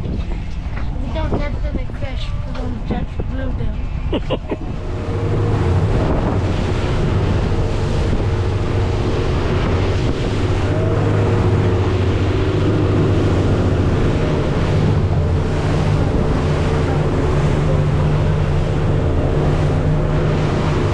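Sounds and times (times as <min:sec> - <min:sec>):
motorboat engine running: 0:00.0 - 0:20.9
water rushing past hull: 0:00.0 - 0:20.9
wind buffeting microphone: 0:00.0 - 0:20.9.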